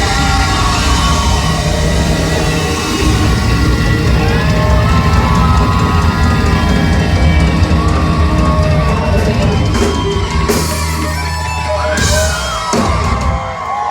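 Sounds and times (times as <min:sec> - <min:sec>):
live rock band playing: 0:00.0 - 0:13.9.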